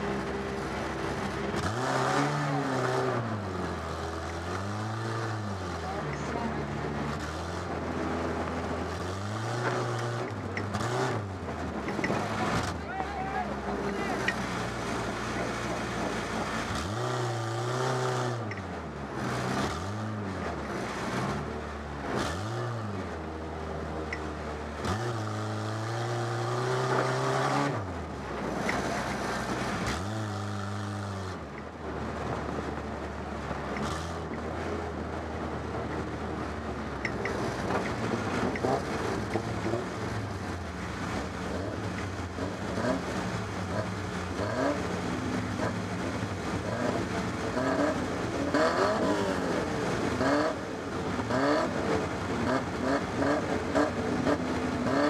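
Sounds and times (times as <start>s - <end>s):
other car engines revving: 0.0s - 55.0s
stock car engine revving: 0.0s - 55.0s.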